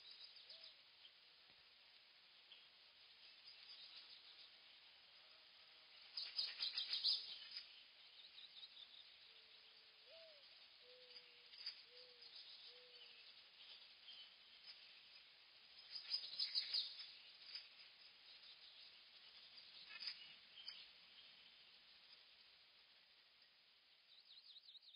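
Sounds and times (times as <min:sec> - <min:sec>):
birds chirping: 0:02.4 - 0:24.9.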